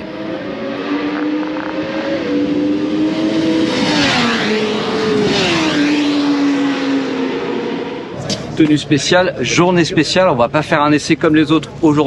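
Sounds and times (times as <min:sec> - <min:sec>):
racing motorcycle engines: 0:00.0 - 0:12.0.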